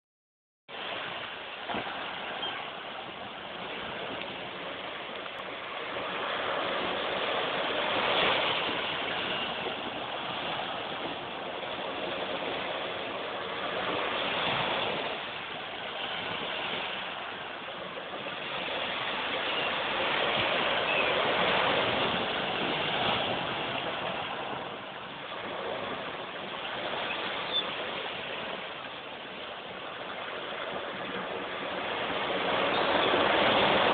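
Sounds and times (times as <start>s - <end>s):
small waves breaking on shore: 0.7s - 33.9s.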